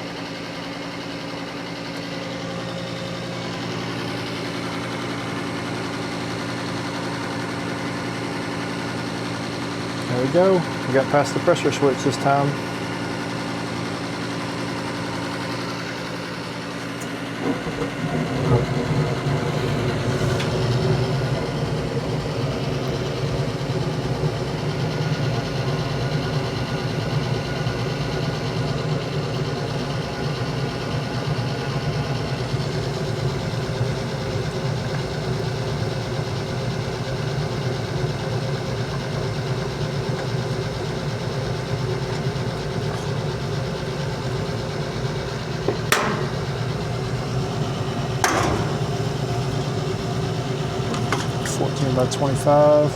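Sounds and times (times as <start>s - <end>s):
furnace inducer motor running: 0.0s - 52.9s
gas burners rushing flame: 0.0s - 52.9s.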